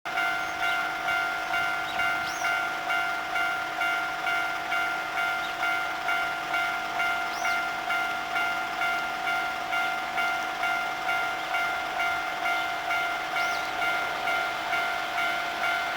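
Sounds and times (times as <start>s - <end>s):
level crossing warning bell: 0.1s - 15.9s.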